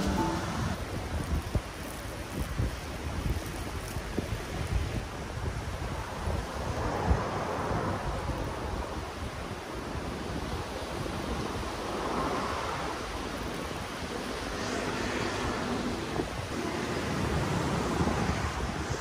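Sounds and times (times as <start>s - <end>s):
surf washing on beach: 0.0s - 19.0s
wind buffeting microphone: 0.7s - 19.0s.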